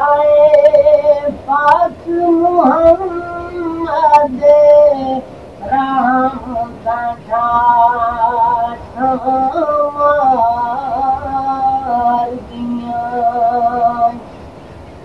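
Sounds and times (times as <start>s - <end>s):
man singing devotional song: 0.0s - 14.3s.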